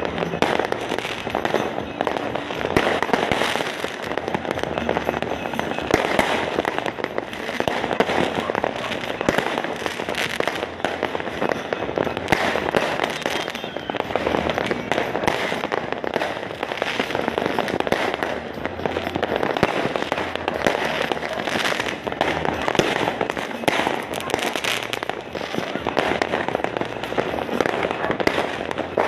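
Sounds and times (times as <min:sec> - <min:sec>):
fireworks and firecrackers popping: 0:00.0 - 0:29.0.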